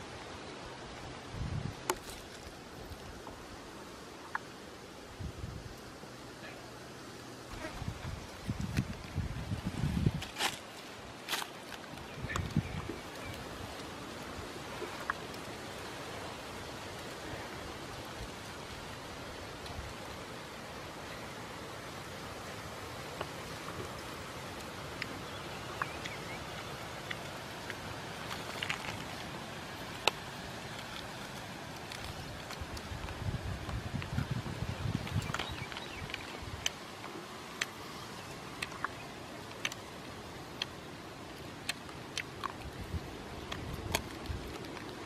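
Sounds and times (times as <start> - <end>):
outdoor background hiss: 0.0 - 45.0.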